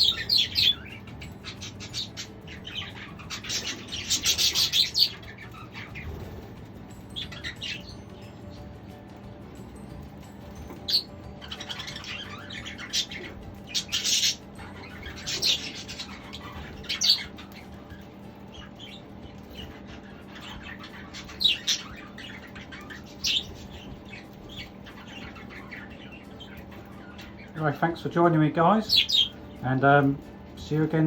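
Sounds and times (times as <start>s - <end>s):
budgerigars chirping and squawking: 0.0s - 31.0s.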